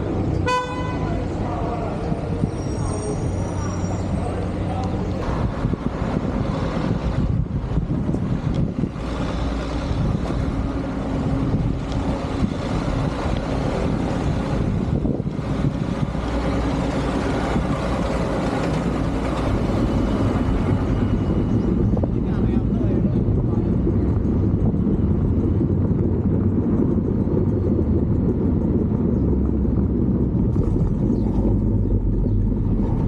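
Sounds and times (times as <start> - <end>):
vehicle engine running: 0.0 - 33.0
wind rushing over microphone: 0.0 - 33.0.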